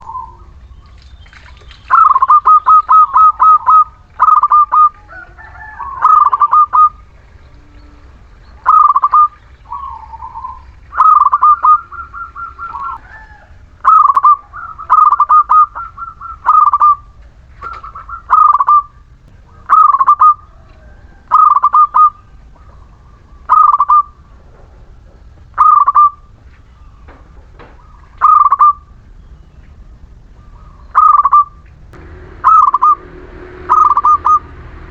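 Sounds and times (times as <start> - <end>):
dove cooing: 0.0 - 31.7, 32.3 - 34.9.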